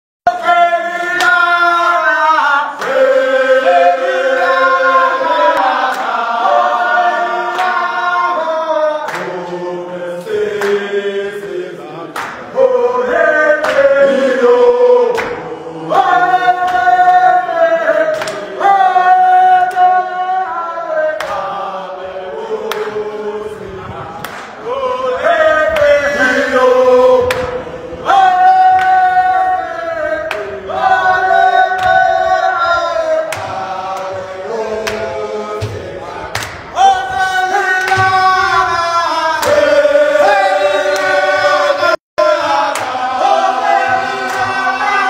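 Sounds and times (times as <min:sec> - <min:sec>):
men singing in chorus: 0:00.3 - 0:45.0.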